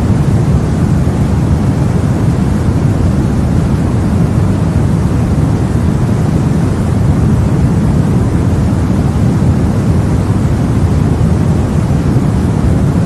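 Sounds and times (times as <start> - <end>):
deep white noise rushing: 0.0 - 13.0.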